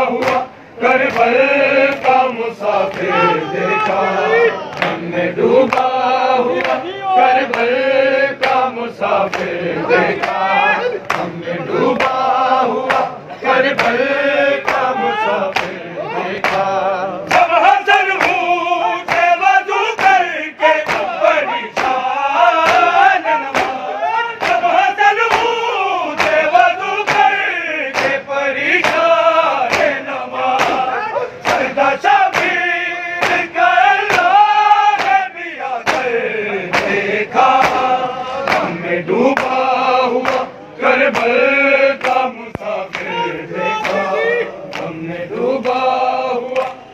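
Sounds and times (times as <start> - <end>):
men chanting in chorus: 0.0 - 46.9.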